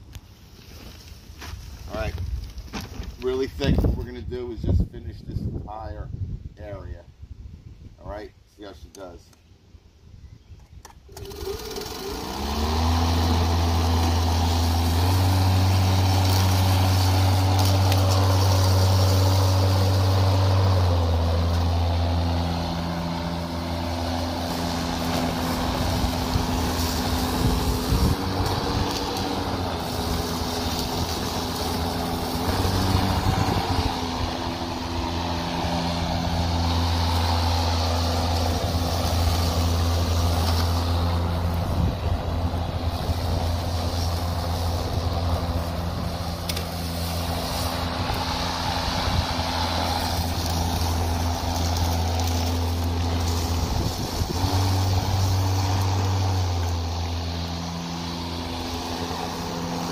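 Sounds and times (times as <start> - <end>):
electric lawn mower running: 11.0 - 59.9.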